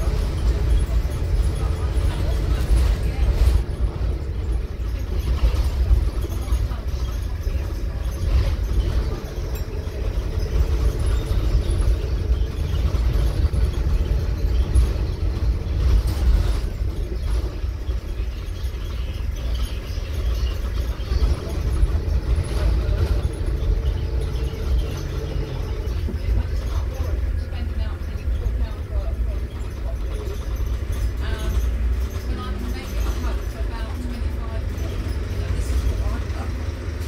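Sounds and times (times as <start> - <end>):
bus engine and road rumble: 0.0 - 37.0.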